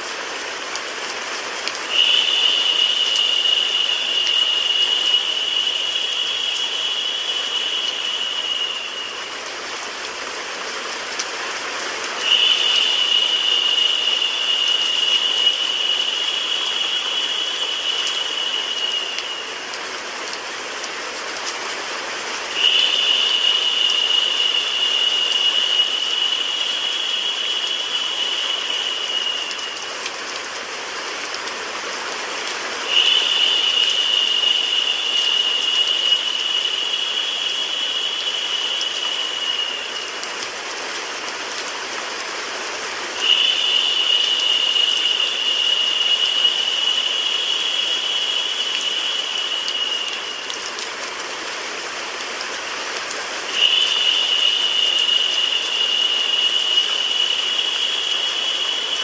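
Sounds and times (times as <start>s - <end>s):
synthetic rain hiss: 0.0s - 59.0s.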